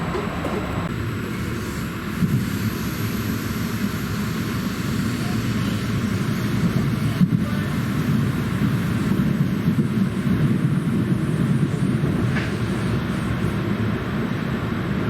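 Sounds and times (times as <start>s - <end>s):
train rumbling along: 0.0s - 15.0s.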